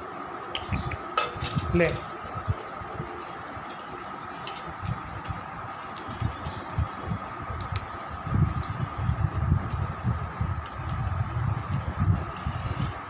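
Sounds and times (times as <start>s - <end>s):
steady hum: 0.0s - 13.0s
rabbits crunching popcorn: 0.4s - 13.0s.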